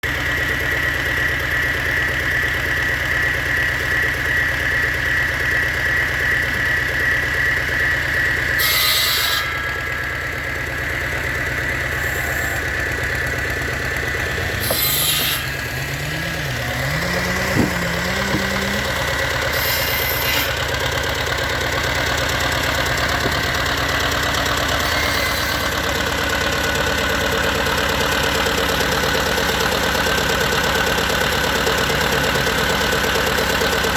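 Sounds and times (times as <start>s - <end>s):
diesel generator running: 0.0s - 33.9s.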